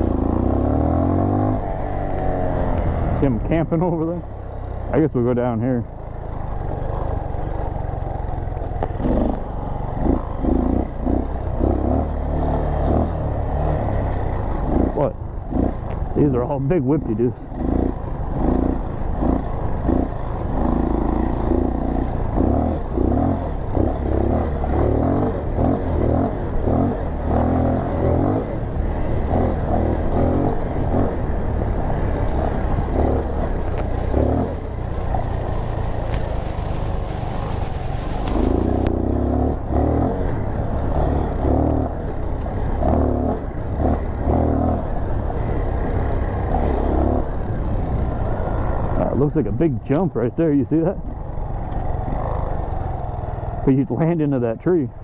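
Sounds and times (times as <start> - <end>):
dirt bike engine revving: 0.0 - 4.2, 4.9 - 42.0, 42.6 - 47.4.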